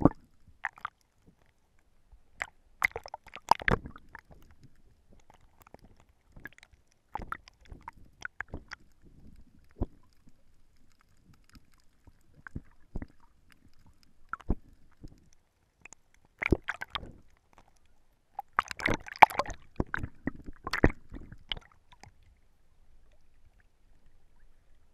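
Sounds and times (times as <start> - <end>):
underwater clicks and crackles: 0.0 - 24.9.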